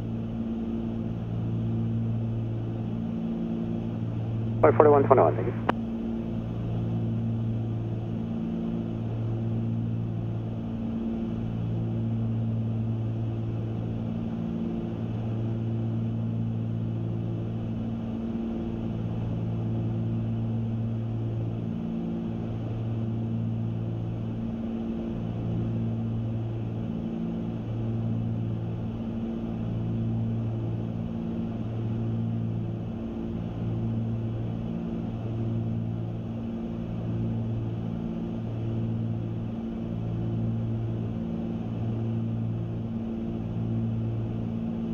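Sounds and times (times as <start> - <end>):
aircraft engines droning: 0.0 - 44.9.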